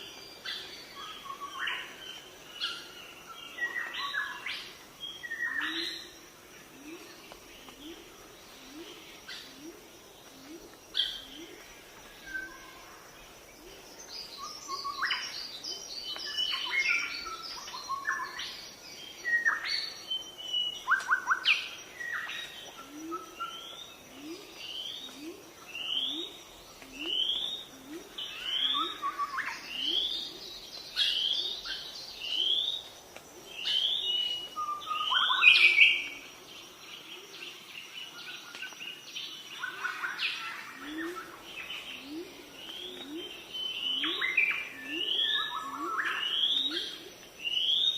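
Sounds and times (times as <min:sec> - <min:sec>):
birds chirping and calling: 0:00.0 - 0:32.9, 0:33.5 - 0:47.9.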